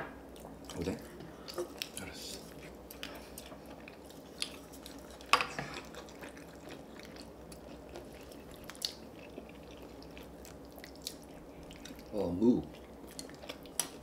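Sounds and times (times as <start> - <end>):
quiet chewing: 0.3 - 14.0.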